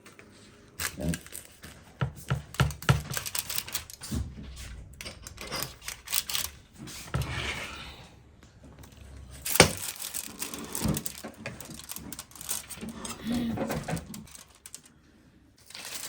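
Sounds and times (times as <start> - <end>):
kitchen things clicking and knocking: 0.8 - 7.8, 8.8 - 14.9.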